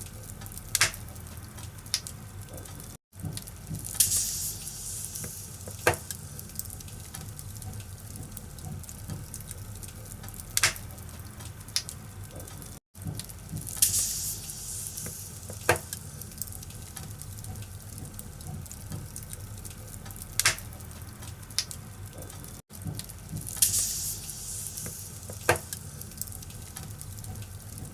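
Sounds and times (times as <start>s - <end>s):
fire crackles and pops: 0.0s - 27.9s
firewood burning in fireplace: 0.0s - 27.9s.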